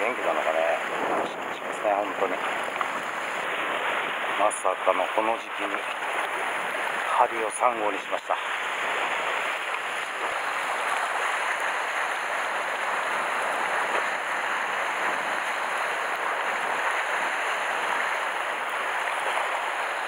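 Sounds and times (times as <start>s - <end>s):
sea waves breaking on rocks: 0.0s - 20.0s.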